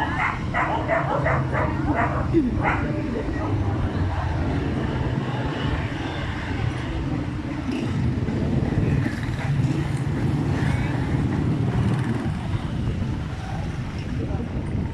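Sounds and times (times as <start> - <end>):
faint voices: 0.0 - 14.9.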